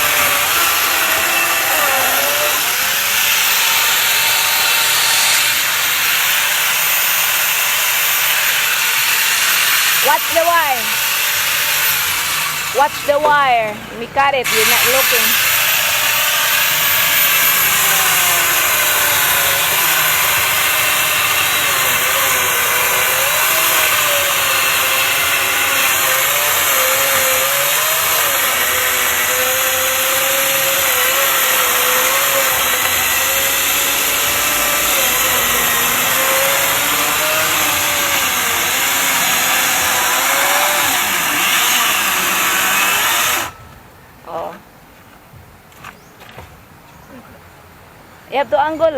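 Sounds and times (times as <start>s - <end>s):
angle grinder chainsaw cutting wood: 0.0s - 43.6s.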